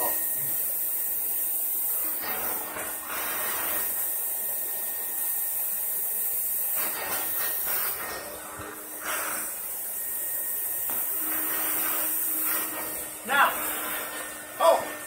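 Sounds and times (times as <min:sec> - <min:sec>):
vacuum suction hiss: 0:00.0 - 0:15.0.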